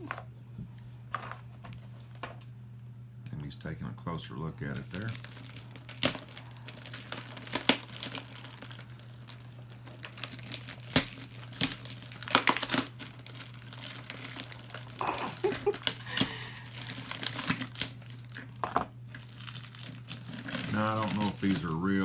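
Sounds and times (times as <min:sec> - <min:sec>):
steady low hum: 0:00.0 - 0:22.0
plastic toys rustling and crinkling: 0:01.1 - 0:02.4, 0:04.4 - 0:22.0.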